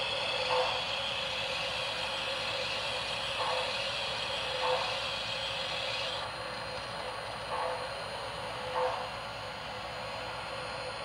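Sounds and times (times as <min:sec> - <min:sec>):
soft steam chuff: 0:00.0 - 0:10.9
model locomotive steam hiss: 0:00.0 - 0:11.0.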